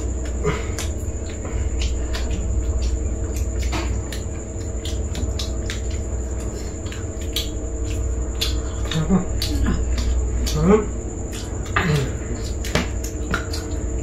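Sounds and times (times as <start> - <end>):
mouth clicks and smacks chewing: 0.0 - 14.0
steady low hum: 0.0 - 14.0.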